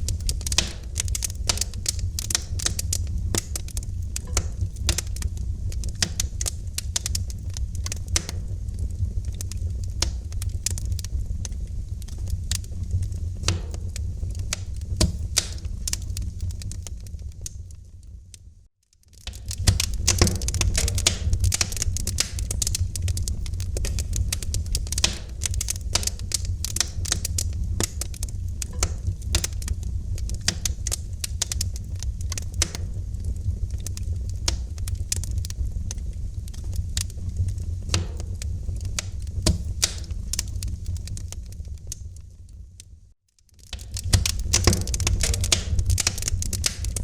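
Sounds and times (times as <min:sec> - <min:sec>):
low rumble of burning fire: 0:00.0 - 0:47.0
wood fire crackling: 0:00.0 - 0:47.0.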